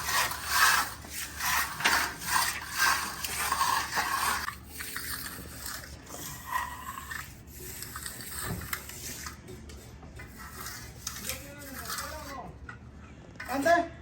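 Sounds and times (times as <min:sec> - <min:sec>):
tool scraping over concrete: 0:00.0 - 0:12.6.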